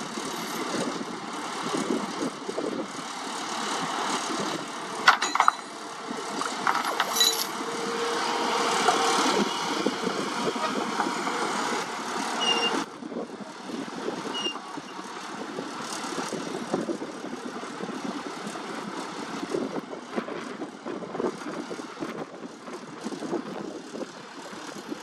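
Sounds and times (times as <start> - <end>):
excavator engine and hydraulics: 0.0 - 25.0.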